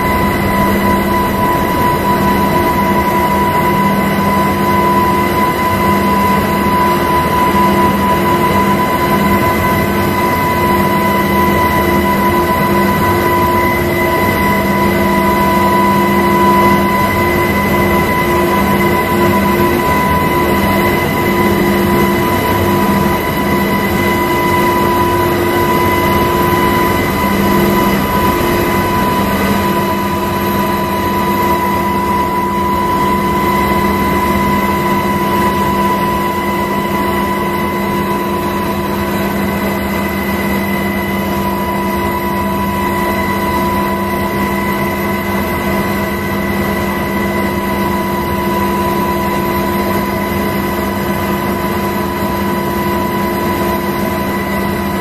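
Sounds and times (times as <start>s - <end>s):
aircraft cabin roar: 0.0s - 55.0s
constant whining tones: 0.0s - 55.0s.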